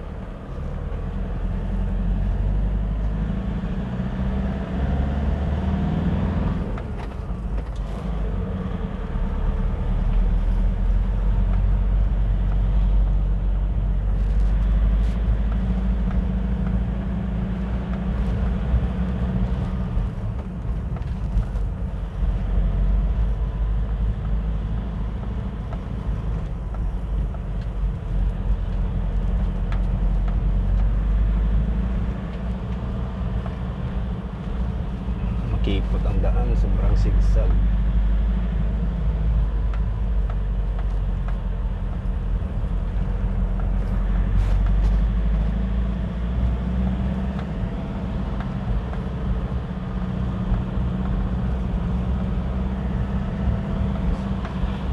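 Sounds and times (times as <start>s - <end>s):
road noise: 0.0s - 54.9s
vehicle engine drone: 0.0s - 54.9s.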